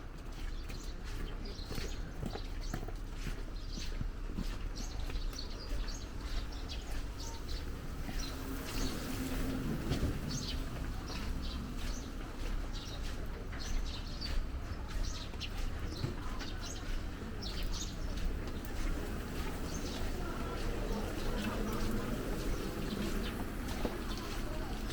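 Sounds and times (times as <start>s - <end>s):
low street rumble: 0.0s - 24.9s
small birds chirping: 0.3s - 24.9s.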